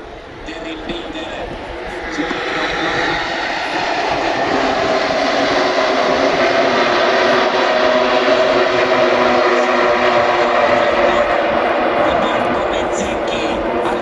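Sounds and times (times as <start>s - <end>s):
racing motorcycle engines at high revs: 0.5s - 14.0s.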